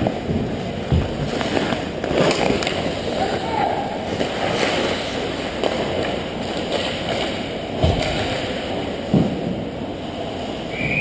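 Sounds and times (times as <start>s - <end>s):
skates scraping ice: 0.0s - 9.4s.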